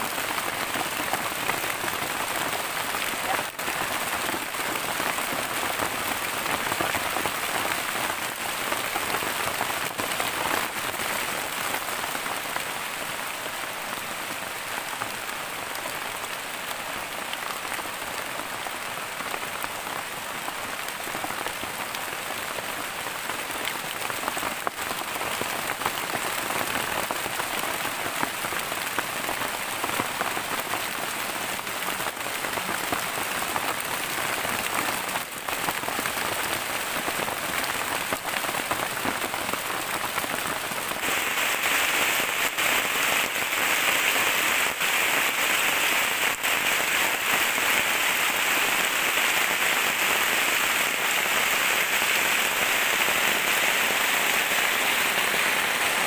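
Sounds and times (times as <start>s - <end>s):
heavy rain on thatch: 0.0s - 56.0s.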